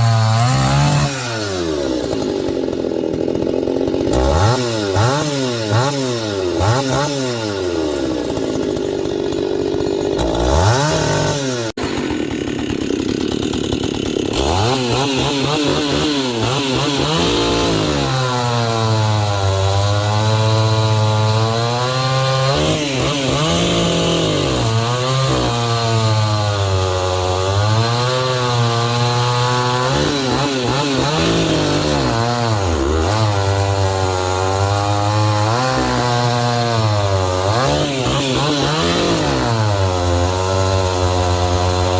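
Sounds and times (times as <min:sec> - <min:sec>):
chainsaw revving: 0:00.0 - 0:41.9.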